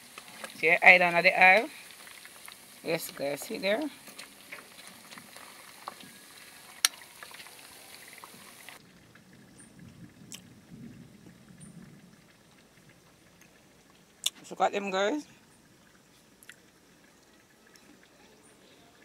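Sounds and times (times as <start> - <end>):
oil crackles and pops: 0.0 - 14.6, 15.6 - 19.0
hot oil sizzling and bubbling: 0.0 - 19.0.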